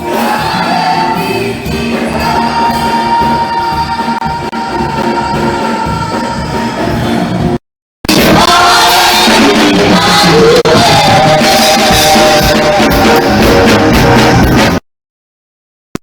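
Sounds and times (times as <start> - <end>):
loud music with singing: 0.0 - 14.8.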